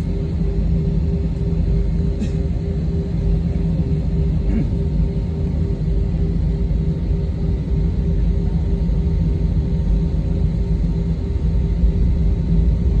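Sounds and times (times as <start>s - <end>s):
airplane engines rumbling: 0.0s - 13.0s.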